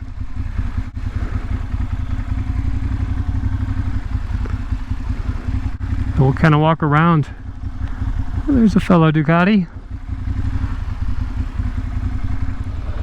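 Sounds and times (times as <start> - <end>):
motorcycle engine idling pulsing exhaust: 0.0 - 13.0.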